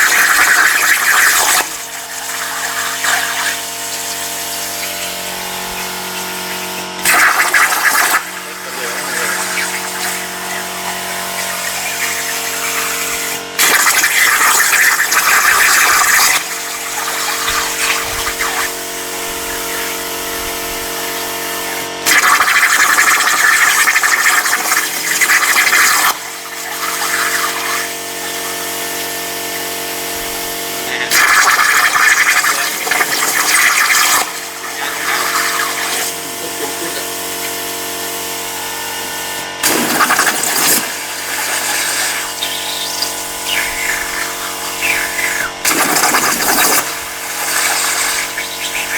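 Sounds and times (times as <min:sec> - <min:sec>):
machine humming: 0:00.0 - 0:48.9
plasma arc hissing: 0:00.0 - 0:48.9.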